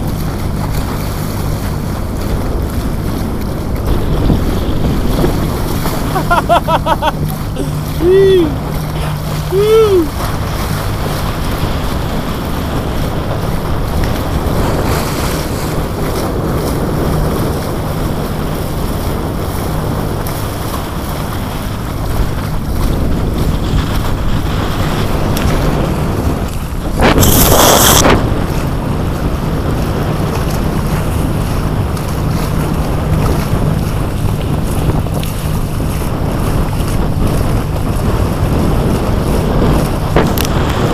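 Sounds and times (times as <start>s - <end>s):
water rushing past hull: 0.0s - 40.9s
wind buffeting microphone: 0.0s - 40.9s.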